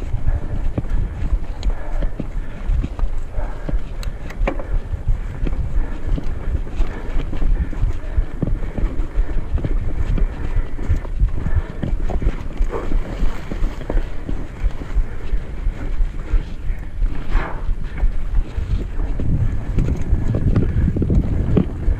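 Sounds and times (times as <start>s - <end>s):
mountain bike rumble and rattle: 0.0s - 21.9s
wind buffeting microphone: 0.0s - 21.9s.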